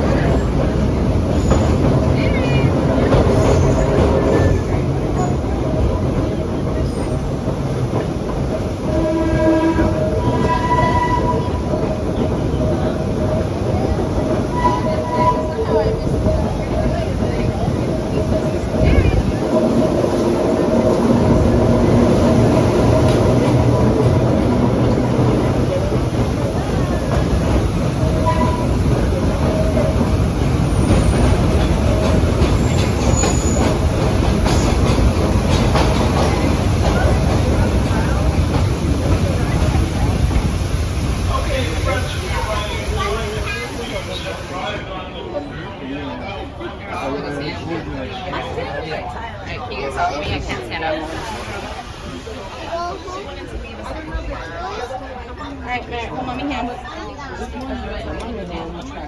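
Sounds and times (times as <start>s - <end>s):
subway train rumbling on track: 0.0s - 59.0s.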